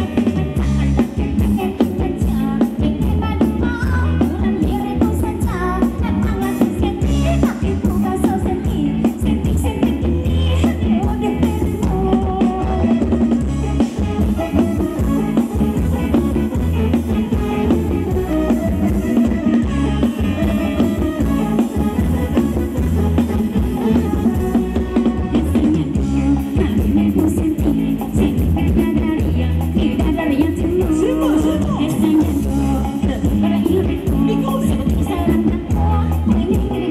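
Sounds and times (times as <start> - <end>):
live dance music through loudspeakers: 0.0 - 36.9.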